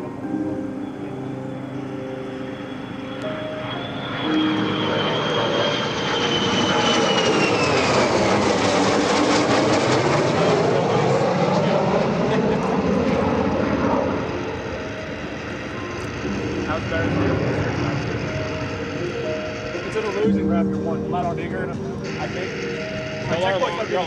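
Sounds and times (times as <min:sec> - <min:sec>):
high whine sliding down in pitch: 0:00.0 - 0:24.0
jet flying past roaring: 0:01.6 - 0:24.0.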